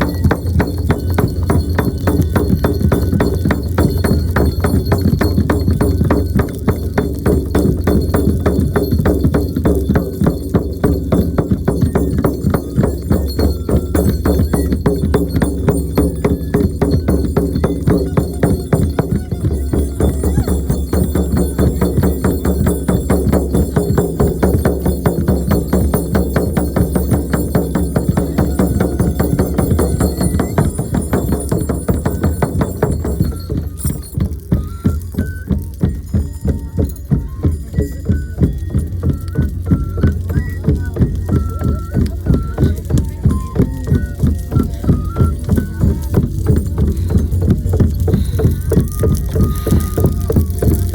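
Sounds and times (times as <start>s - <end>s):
frame drum galloping rhythm: 0.0s - 50.9s.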